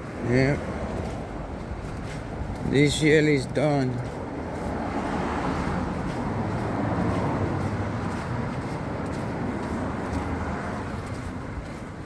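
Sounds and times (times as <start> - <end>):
vehicle passing with low rumble: 0.0 - 12.0.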